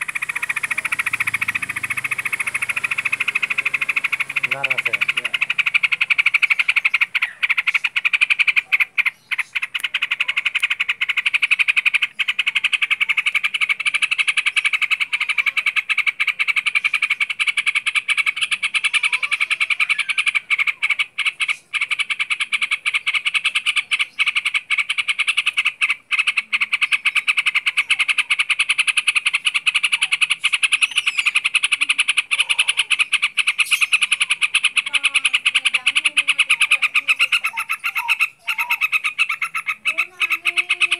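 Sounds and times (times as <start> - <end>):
chorus of trilling animal calls: 0.0 - 40.9.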